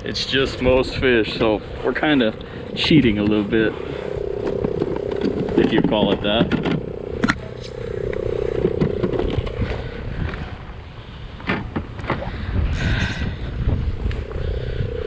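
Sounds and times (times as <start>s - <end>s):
electric trolling motor humming: 0.0s - 11.3s, 13.9s - 15.0s
water noise: 0.0s - 15.0s
wind buffeting microphone: 0.0s - 15.0s.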